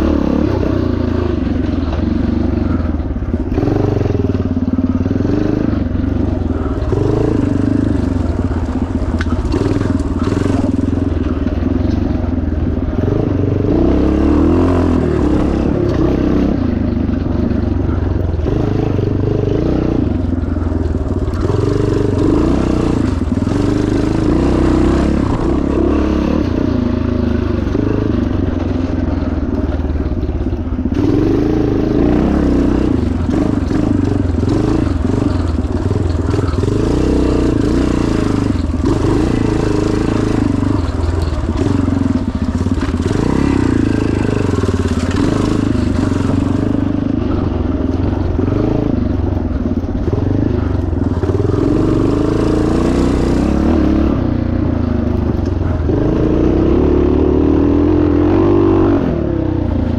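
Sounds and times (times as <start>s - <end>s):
motorcycle clattering over rough ground: 0.0s - 56.5s
motorcycle engine revving: 0.0s - 59.9s.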